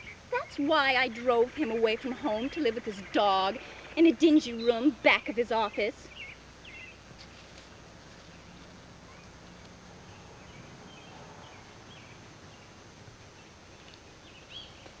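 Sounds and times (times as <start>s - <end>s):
faint bird chirps: 0.0s - 15.0s
outdoor background hiss: 0.0s - 15.0s.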